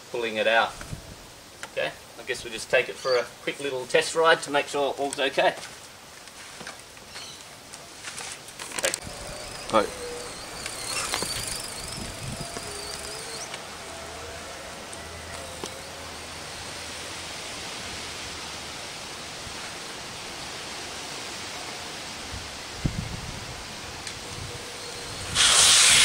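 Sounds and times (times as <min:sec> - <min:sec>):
street ambience hiss: 0:00.0 - 0:26.0.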